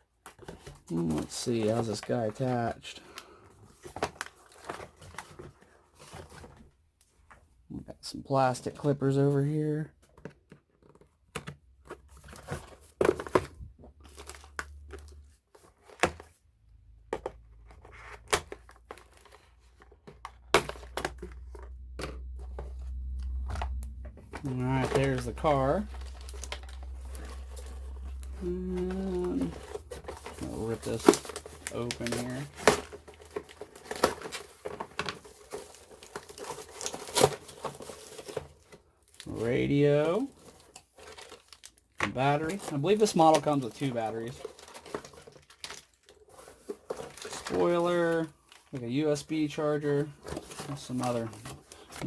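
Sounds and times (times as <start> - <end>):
packaging rustling and crinkling: 0.0 - 7.4, 8.6 - 52.0.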